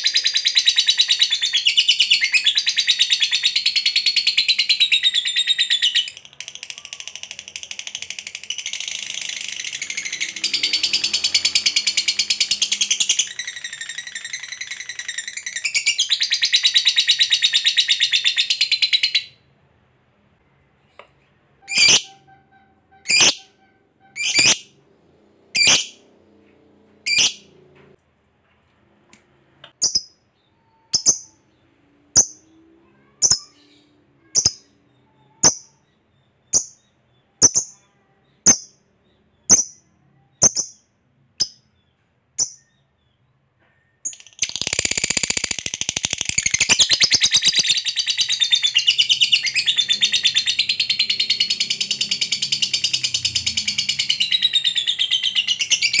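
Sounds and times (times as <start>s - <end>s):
lovebird chirping and trilling: 0.0s - 19.5s, 21.6s - 24.8s, 25.5s - 26.0s, 27.0s - 27.5s, 29.8s - 43.2s, 44.0s - 56.0s.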